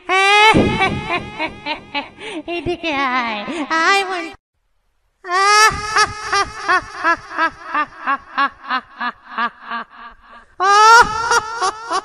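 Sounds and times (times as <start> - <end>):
high-pitched ghost cackle: 0.0 - 4.3, 5.3 - 12.0.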